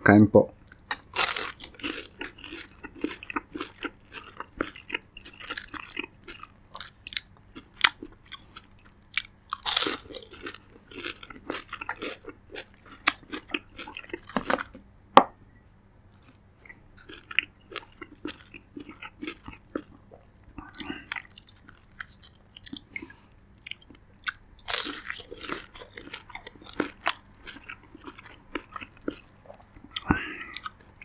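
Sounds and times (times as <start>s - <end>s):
chewing crispy food: 0.6s - 14.8s, 16.1s - 31.0s.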